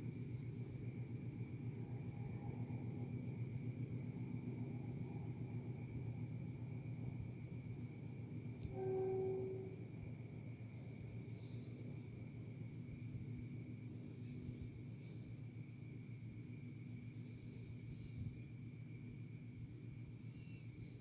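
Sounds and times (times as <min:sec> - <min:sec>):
crickets trilling: 0:00.0 - 0:21.0
low background hum: 0:00.0 - 0:21.0.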